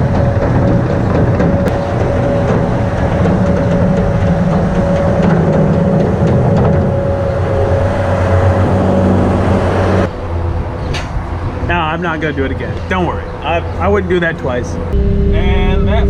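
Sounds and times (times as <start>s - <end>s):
engine whining and humming: 0.0s - 16.0s.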